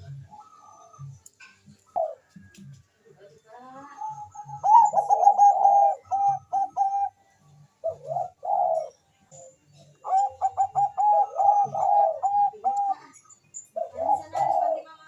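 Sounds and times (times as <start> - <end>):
dove cooing: 0.0 - 2.7, 3.8 - 15.0.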